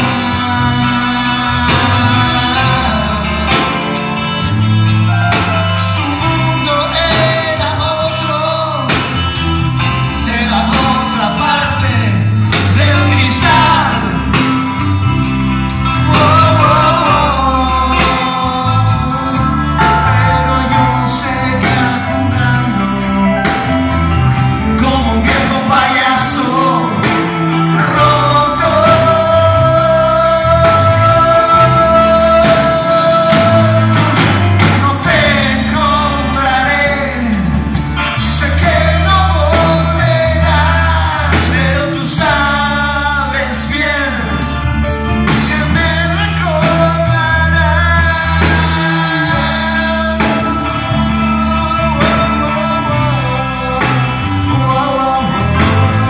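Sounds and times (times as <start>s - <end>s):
live rock band: 0.0s - 56.0s
person singing lead vocals: 0.0s - 56.0s.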